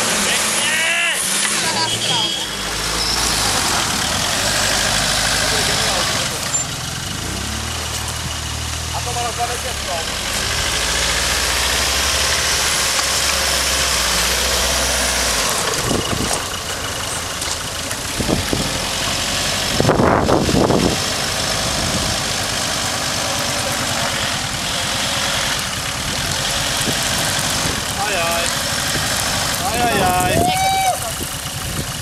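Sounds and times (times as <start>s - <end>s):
suv engine at low revs: 0.0s - 32.0s.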